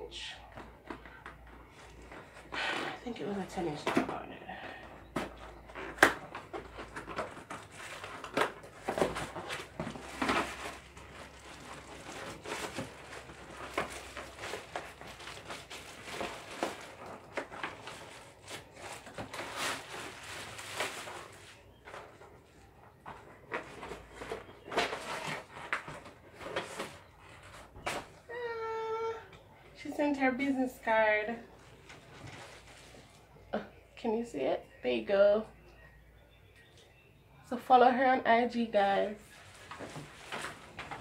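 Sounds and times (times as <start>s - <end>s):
cardboard and plastic packaging rustling: 0.1s - 28.4s, 29.8s - 33.5s, 38.8s - 41.0s.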